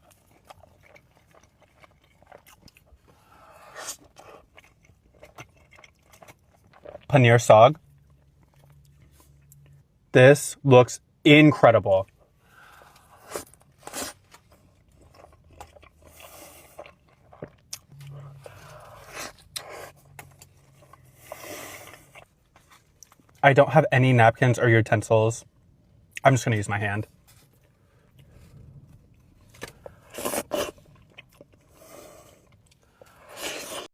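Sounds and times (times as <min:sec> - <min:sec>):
chewing and mouth sounds: 0:00.0 - 0:09.9, 0:12.1 - 0:23.4, 0:27.3 - 0:33.9.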